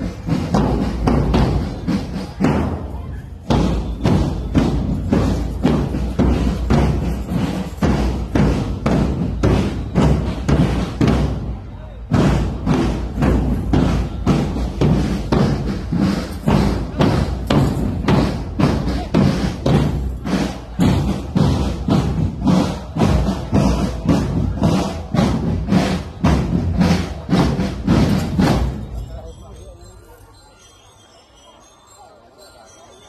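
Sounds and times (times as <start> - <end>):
marching drums beating: 0.0 - 29.6.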